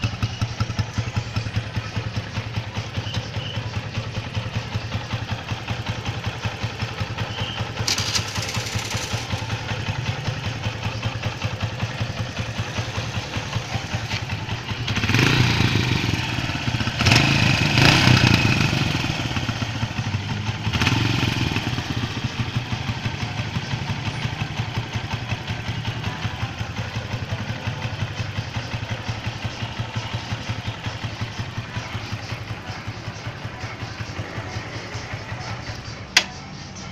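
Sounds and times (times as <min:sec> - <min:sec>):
motorcycle engine idling and revving: 0:00.0 - 0:36.9.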